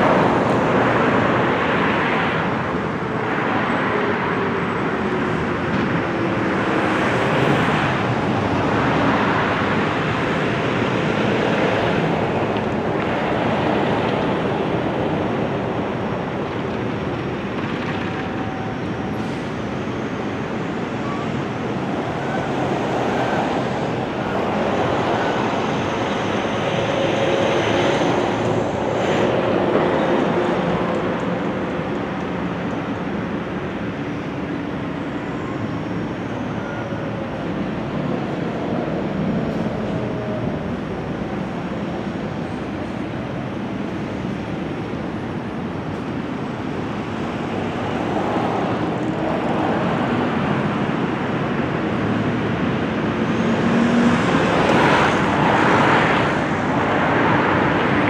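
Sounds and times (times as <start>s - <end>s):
road traffic noise: 0.0s - 58.0s.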